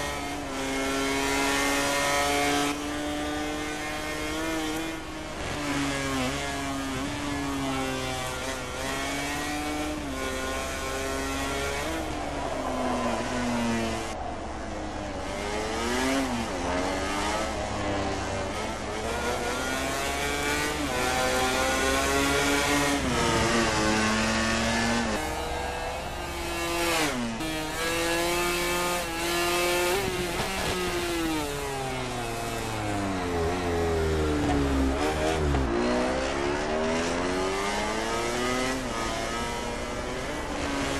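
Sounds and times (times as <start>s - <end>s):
racing motorcycles accelerating: 0.0s - 40.9s.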